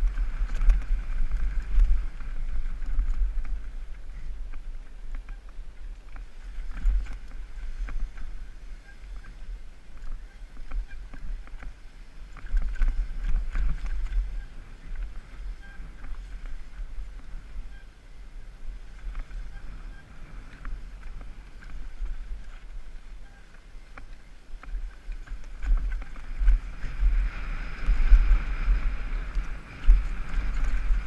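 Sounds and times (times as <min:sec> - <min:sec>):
bike clicking and rattling: 0:00.0 - 0:17.9, 0:18.6 - 0:31.0
wind rumbling on microphone: 0:00.0 - 0:31.0.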